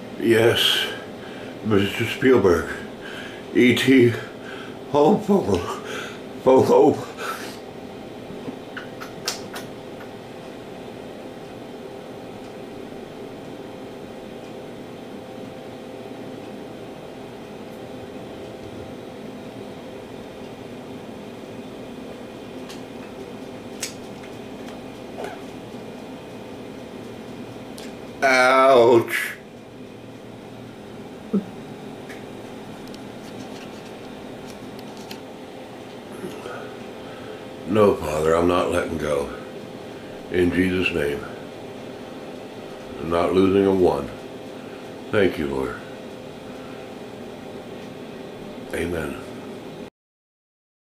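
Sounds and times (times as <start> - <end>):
machine humming: 0.0 - 49.9.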